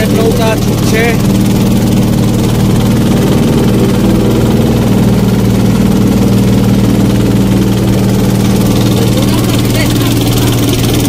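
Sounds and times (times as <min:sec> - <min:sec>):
motorboat engine drone: 0:00.0 - 0:11.0.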